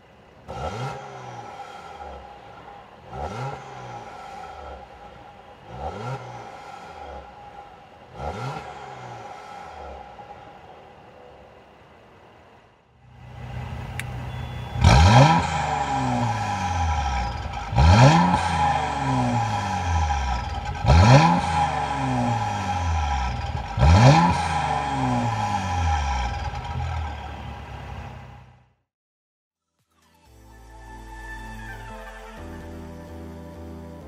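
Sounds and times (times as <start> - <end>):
car engine revving: 0.0 - 12.4, 13.0 - 28.6.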